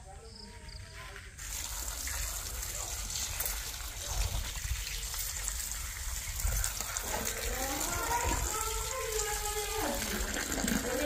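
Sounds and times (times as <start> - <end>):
water pouring into steel bowl: 1.4 - 11.0.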